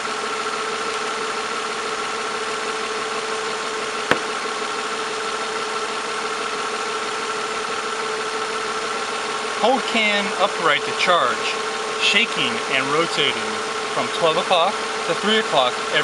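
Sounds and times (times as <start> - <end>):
car engine idling with whine: 0.0 - 16.0.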